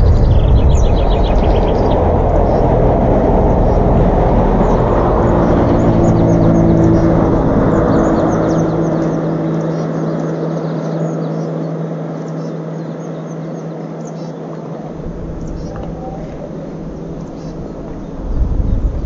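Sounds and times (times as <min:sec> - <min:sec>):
motor engine humming: 0:00.0 - 0:12.2, 0:14.5 - 0:19.0.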